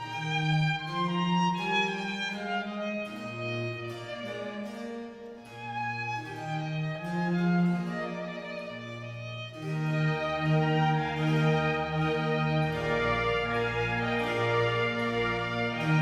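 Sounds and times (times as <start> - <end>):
low sustained cello notes: 0.0 - 16.0
violin melody in long notes: 0.0 - 16.0.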